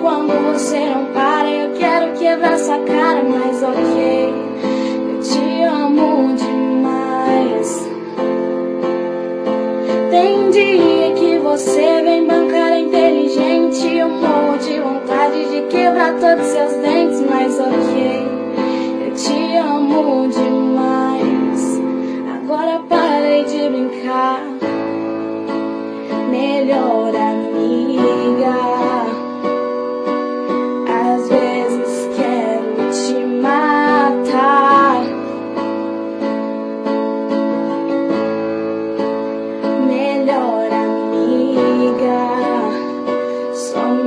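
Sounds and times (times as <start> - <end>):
woman singing: 0.0 - 36.0, 39.5 - 44.0.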